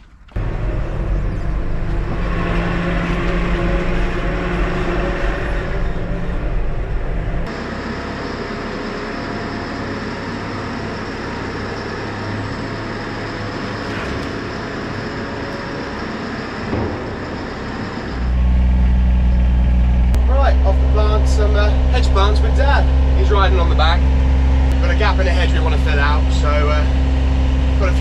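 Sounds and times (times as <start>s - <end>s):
diesel engine with high whine: 0.0s - 28.0s
vehicle engine drone from inside cab: 0.0s - 28.0s.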